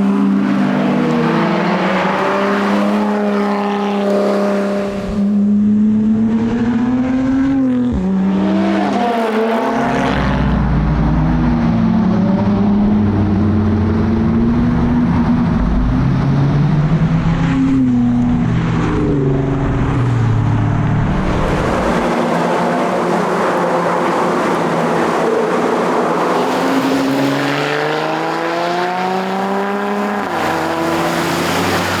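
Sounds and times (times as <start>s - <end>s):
car engine accelerating through gears: 0.0s - 32.0s
tyre and road noise: 0.0s - 32.0s.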